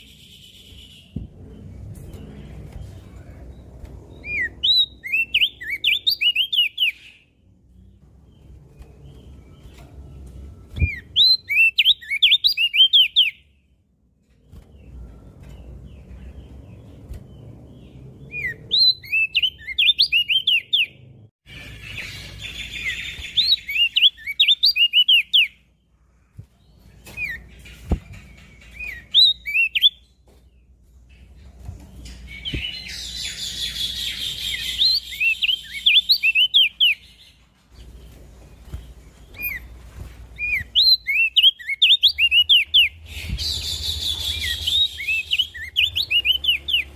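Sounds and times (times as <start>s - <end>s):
bird singing high chirps: 0.0s - 13.8s, 14.4s - 25.9s, 26.6s - 39.8s, 40.4s - 46.9s.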